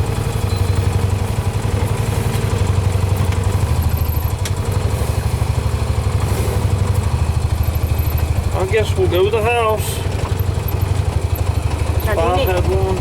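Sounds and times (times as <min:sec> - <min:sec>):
small engine running at low revs: 0:00.0 - 0:13.0.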